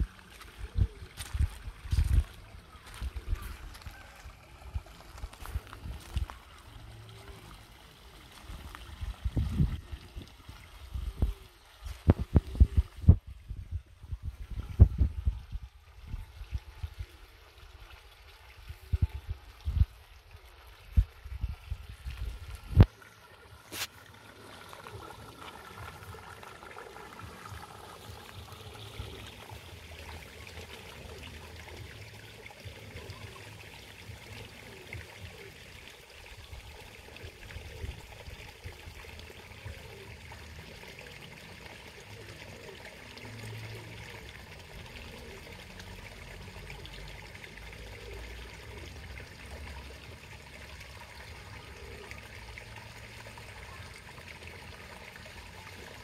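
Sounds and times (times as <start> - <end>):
water trickling in pond: 0.0 - 56.0.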